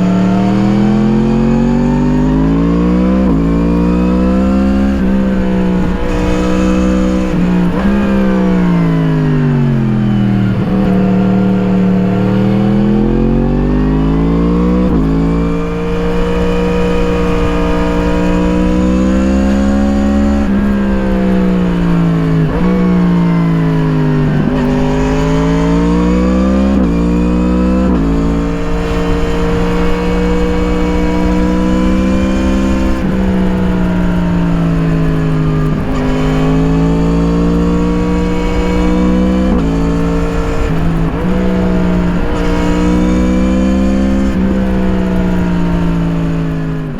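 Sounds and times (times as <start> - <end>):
wind rush on microphone: 0.0 - 13.6, 14.2 - 46.9
motorcycle engine revving: 0.0 - 46.9.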